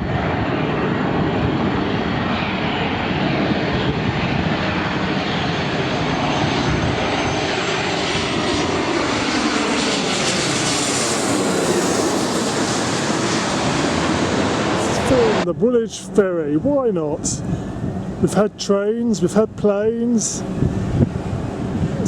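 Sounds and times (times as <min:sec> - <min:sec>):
airliner passing overhead: 0:00.0 - 0:22.0.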